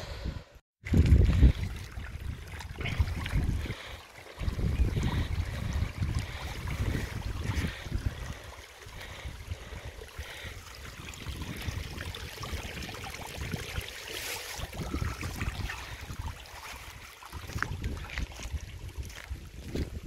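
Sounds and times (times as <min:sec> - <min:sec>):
wind buffeting microphone: 0:00.0 - 0:20.0
water trickling into ditch: 0:00.8 - 0:20.0.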